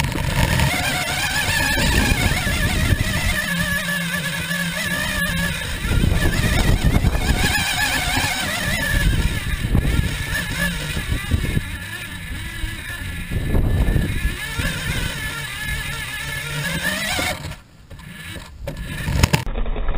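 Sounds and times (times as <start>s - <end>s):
rumble and rattle over grass: 0.0s - 19.5s
toy car motor whine: 0.0s - 19.5s.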